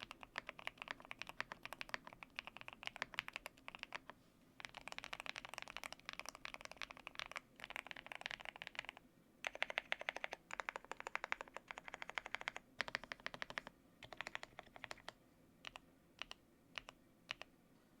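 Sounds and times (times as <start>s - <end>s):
mechanical keyboard typing: 0.0s - 17.5s.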